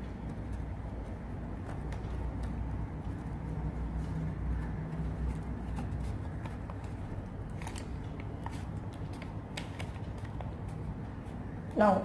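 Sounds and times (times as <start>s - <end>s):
paper crinkling: 0.0s - 11.7s
low background hum: 0.0s - 12.0s.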